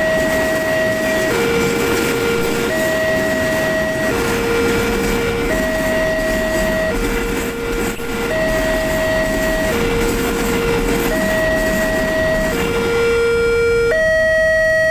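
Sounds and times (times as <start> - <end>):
freight train rumbling past: 0.0 - 14.2
crossing alarm two-tone: 0.0 - 14.9.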